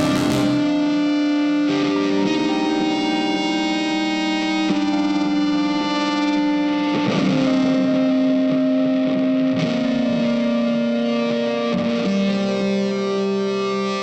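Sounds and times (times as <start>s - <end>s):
electric guitar chords with effects: 0.0s - 14.0s.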